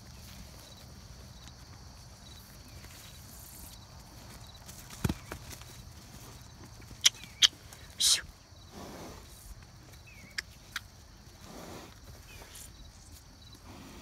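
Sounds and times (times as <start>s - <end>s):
horses moving: 0.0s - 8.6s, 9.2s - 14.0s.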